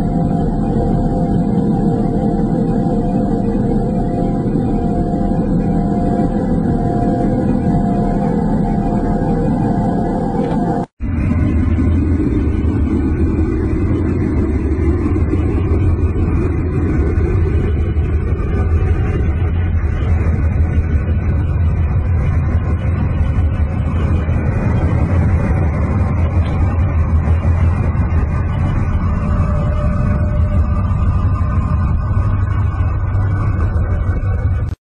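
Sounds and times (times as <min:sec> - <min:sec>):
deep electronic rumbling drone: 0:00.0 - 0:34.8.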